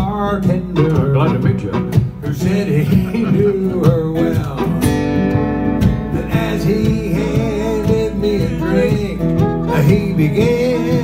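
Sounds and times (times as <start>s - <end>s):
acoustic guitar plucked: 0.0s - 11.0s.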